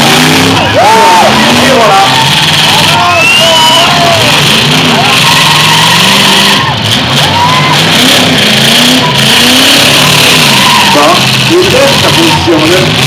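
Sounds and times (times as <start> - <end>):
car engines revving: 0.0 - 13.0
tires squealing: 0.0 - 13.0.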